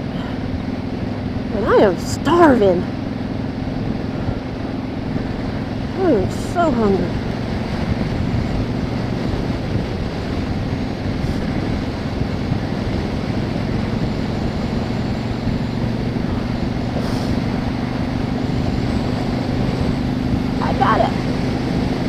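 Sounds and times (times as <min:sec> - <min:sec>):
motorcycle engine cruising: 0:00.0 - 0:22.0
wind and road rush: 0:00.0 - 0:22.0.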